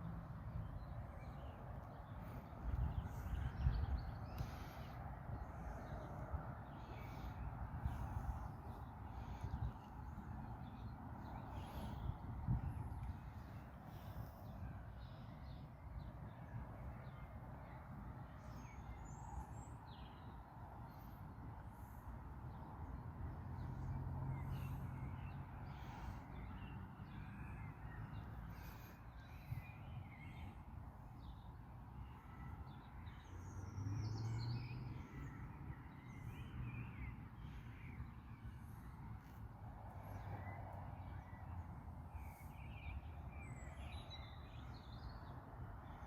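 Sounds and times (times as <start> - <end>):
distant road traffic: 0.0 - 46.0
low rumble of wind: 0.0 - 46.0.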